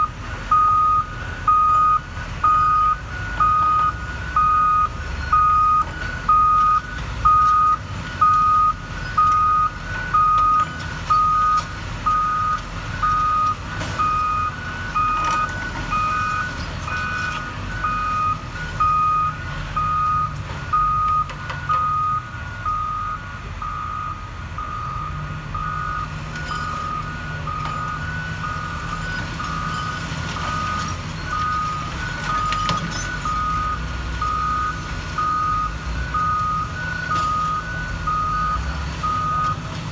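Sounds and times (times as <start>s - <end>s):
diesel engines rumbling: 0.0s - 39.9s.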